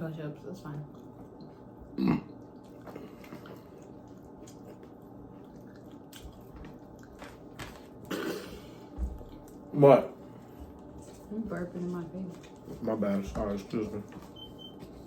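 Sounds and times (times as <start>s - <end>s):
people chewing food: 0.2s - 15.0s.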